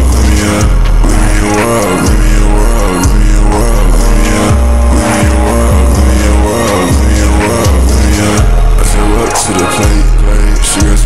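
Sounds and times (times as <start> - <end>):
deep sliding bass notes: 0.0 - 11.0
hi-hats ticking: 0.0 - 11.0
instrumental hip-hop beat: 0.0 - 11.0.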